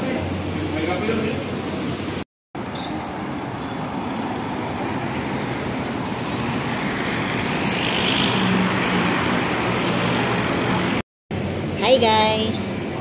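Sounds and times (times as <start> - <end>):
cars passing on street: 0.0 - 13.0.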